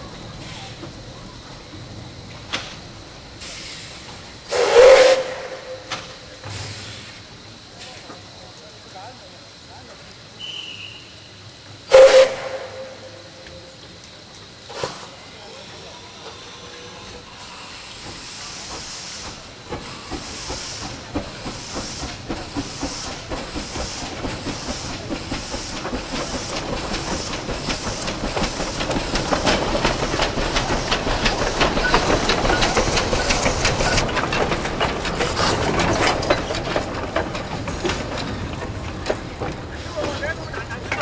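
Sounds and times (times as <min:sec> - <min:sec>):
steam locomotive chuffing: 0:00.0 - 0:41.0.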